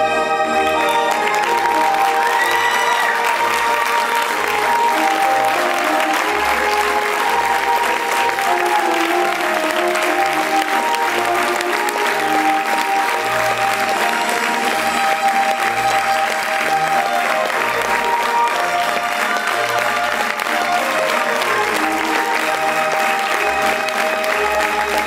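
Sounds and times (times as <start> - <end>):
music with held tones: 0.0 - 25.0
audience applauding: 0.5 - 25.0.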